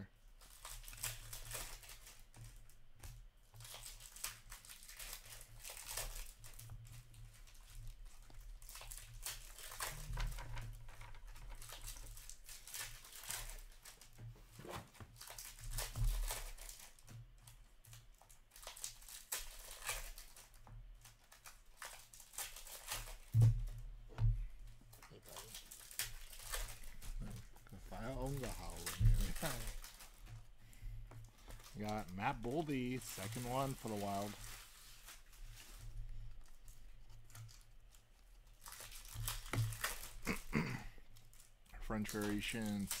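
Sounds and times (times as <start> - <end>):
foil packs crinkling and tearing: 0.3 - 23.8, 24.9 - 43.0.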